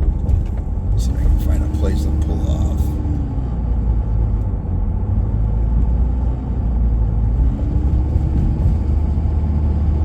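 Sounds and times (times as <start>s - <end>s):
vehicle engine and tyres rumbling: 0.0s - 10.0s.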